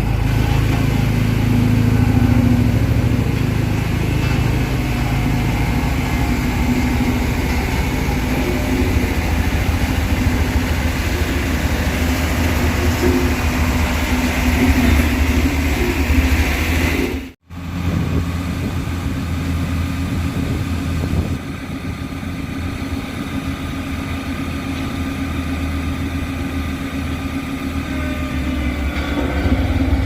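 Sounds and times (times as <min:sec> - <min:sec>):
diesel machine engine rumbling: 0:00.0 - 0:30.0.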